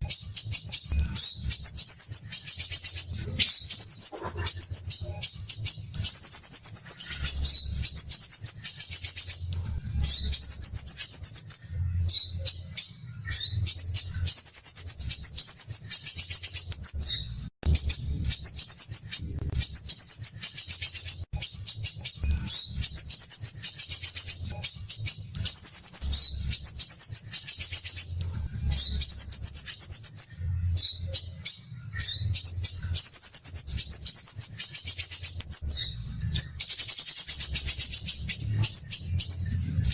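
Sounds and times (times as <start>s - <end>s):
bird singing harsh rapid trills: 0.0s - 39.9s.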